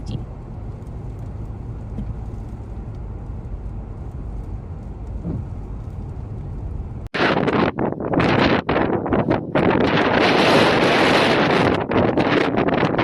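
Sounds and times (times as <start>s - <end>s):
gusty wind on microphone: 0.0s - 13.0s
low storm rumble: 0.0s - 13.0s.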